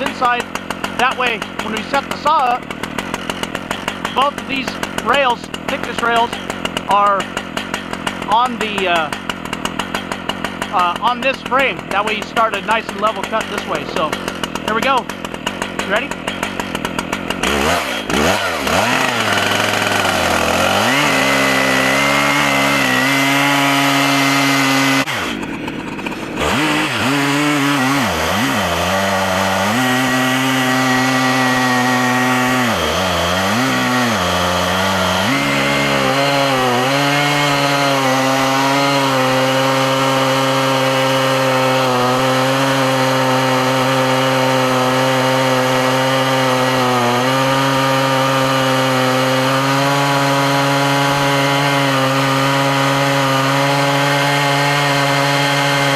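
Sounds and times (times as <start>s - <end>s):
chainsaw cutting through log: 0.0s - 55.9s.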